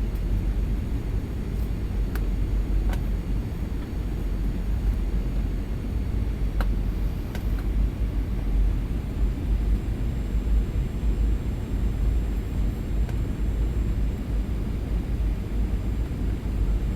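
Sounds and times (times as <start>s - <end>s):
airplane cabin rumble and hiss: 0.0s - 16.9s.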